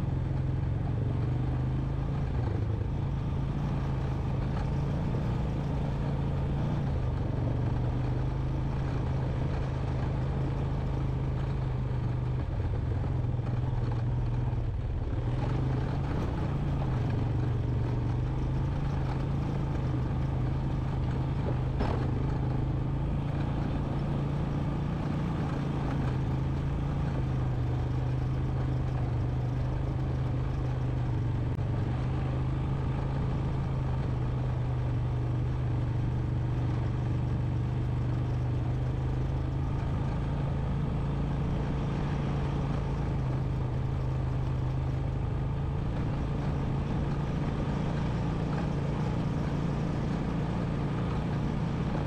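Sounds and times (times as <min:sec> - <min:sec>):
single-cylinder engine running: 0:00.0 - 0:52.0.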